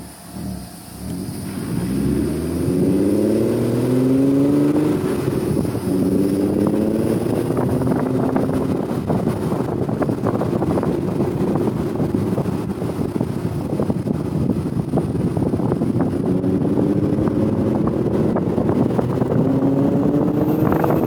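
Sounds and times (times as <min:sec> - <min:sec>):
car engine accelerating: 0:00.0 - 0:21.0
wind and road noise: 0:00.0 - 0:21.0.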